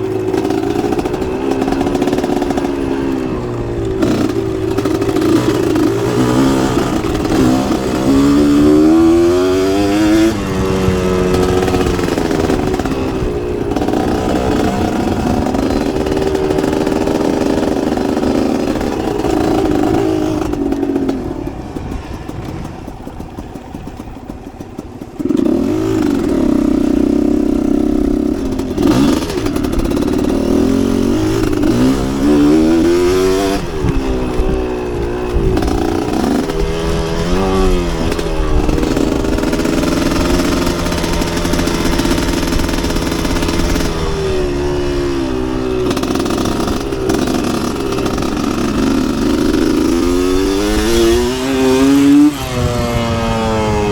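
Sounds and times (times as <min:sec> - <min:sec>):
rattle: 0:00.0 - 0:53.8
dirt bike engine revving: 0:00.0 - 0:53.9.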